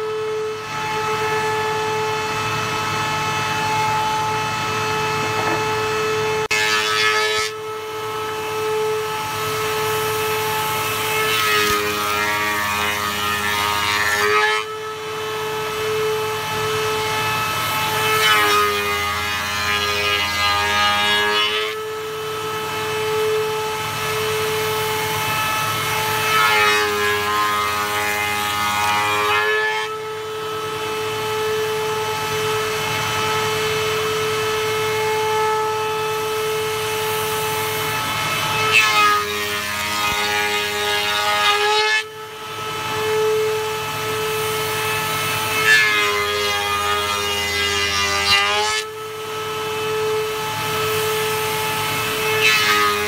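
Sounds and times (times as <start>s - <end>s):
cutter cutting wood: 0.0s - 53.0s
woodworking shaper whining: 0.0s - 53.0s.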